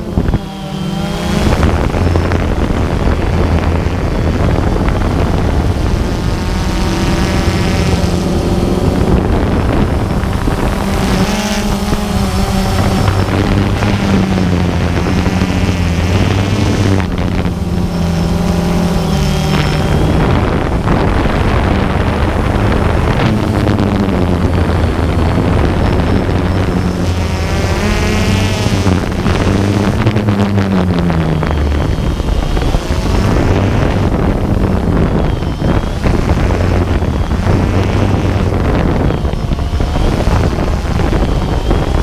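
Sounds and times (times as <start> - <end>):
drone propellers buzzing: 0.0 - 42.0
wind noise on microphone: 0.0 - 42.0.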